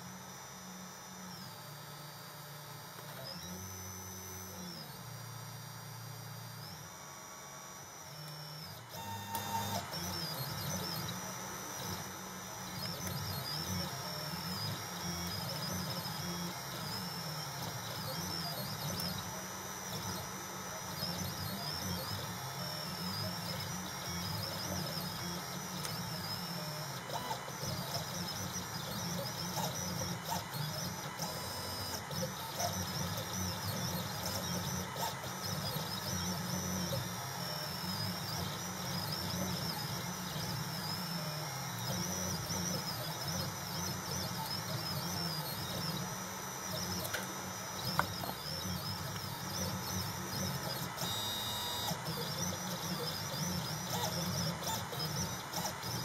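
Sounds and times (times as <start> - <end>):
engraving machine motors whining: 0.2 - 56.0.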